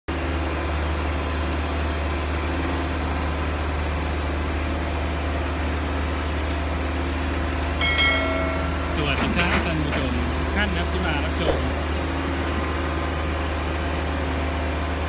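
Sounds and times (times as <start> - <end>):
excavator diesel engine running: 0.1 - 15.0.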